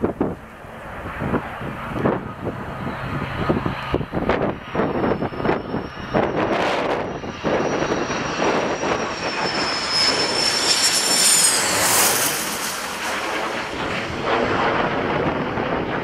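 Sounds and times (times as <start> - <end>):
jet passing low overhead: 0.0 - 16.0.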